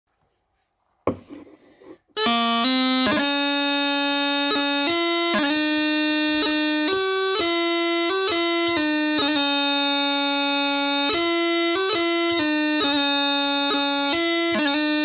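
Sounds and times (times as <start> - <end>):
practice chanter melody: 2.2 - 15.0.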